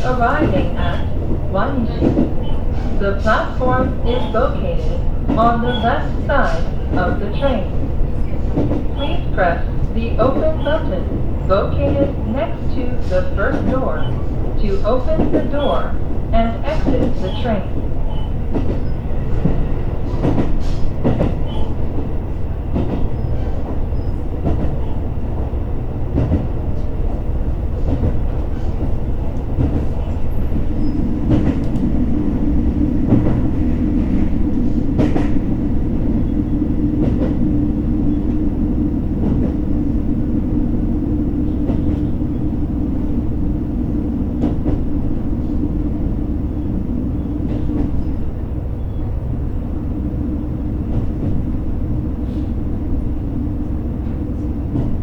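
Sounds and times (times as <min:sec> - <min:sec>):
train interior rumble: 0:00.0 - 0:55.0.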